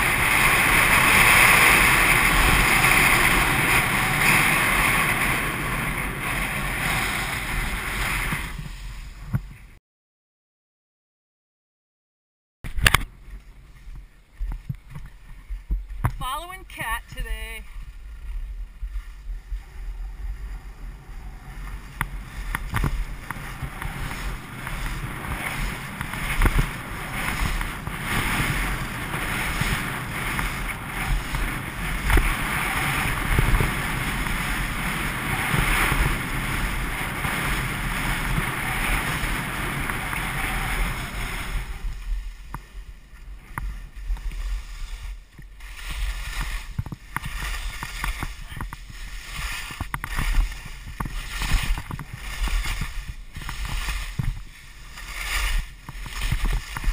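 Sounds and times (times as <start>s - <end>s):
skis scraping over snow: 0.0s - 9.7s, 13.1s - 56.9s
wind buffeting microphone: 0.0s - 9.8s, 12.8s - 56.9s.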